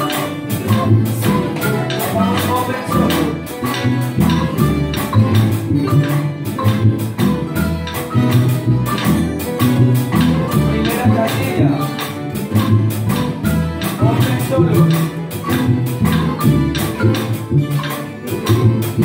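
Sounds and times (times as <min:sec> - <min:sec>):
low plucked notes: 0:00.0 - 0:19.0
plucked-string ensemble playing: 0:00.0 - 0:19.0
strummed rhythm: 0:00.0 - 0:19.0.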